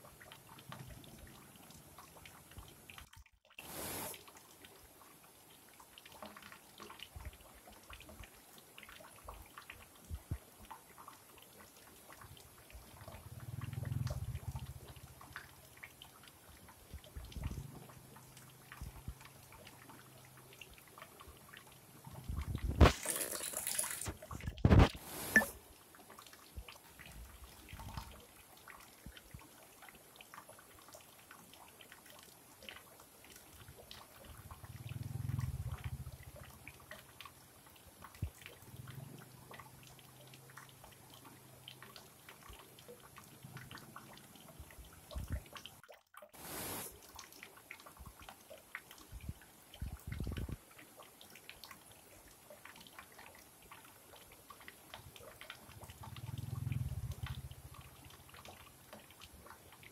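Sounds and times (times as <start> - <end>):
stream trickling and dripping: 0.0 - 59.9.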